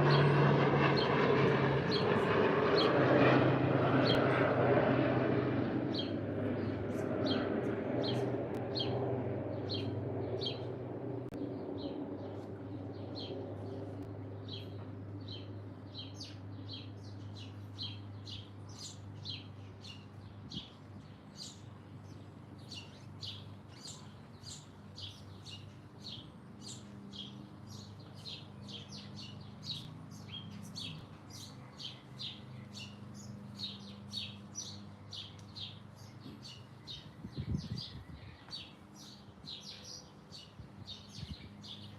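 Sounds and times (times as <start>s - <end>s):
low engine rumble: 0.0s - 38.4s
songbirds chirping: 0.0s - 41.9s.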